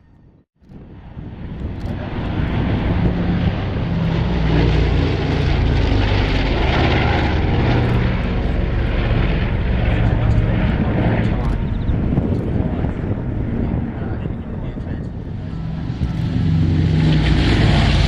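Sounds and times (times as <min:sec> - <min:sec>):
propeller aircraft engines droning: 0:00.0 - 0:18.0.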